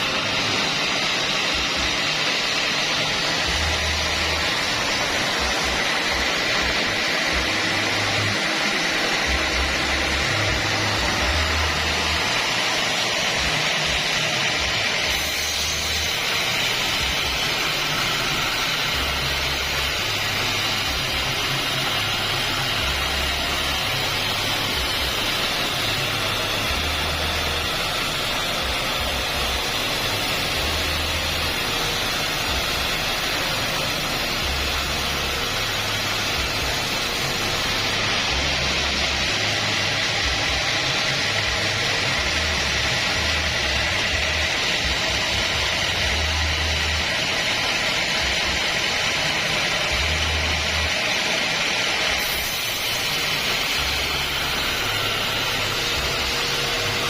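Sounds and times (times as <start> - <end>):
band sawmill sawing wood: 0.0 - 57.0.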